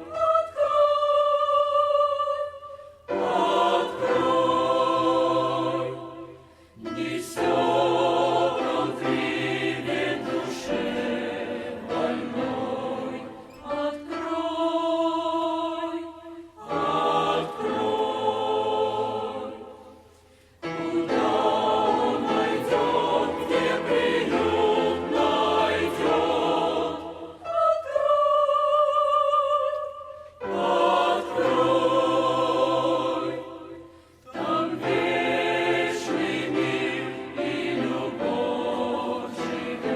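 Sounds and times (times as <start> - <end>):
church choir singing a hymn: 0.0 - 39.9.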